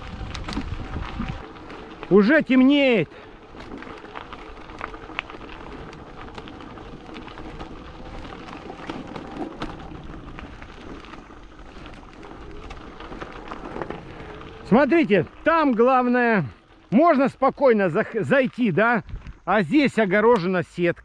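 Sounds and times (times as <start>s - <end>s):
crunching over loose gravel: 0.0s - 21.0s.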